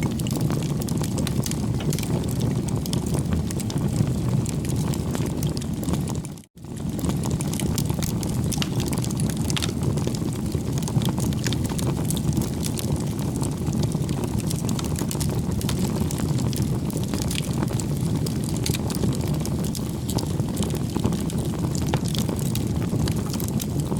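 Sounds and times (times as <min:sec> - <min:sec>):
campfire crackling and popping: 0:00.0 - 0:23.9
low roar of flames: 0:00.0 - 0:23.9.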